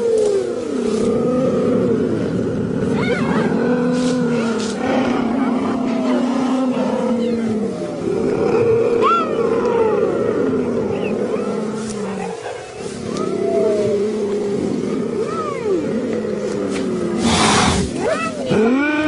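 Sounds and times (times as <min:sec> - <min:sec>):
low rumble: 0:00.0 - 0:18.6
wild animals calling and growling: 0:00.0 - 0:19.0.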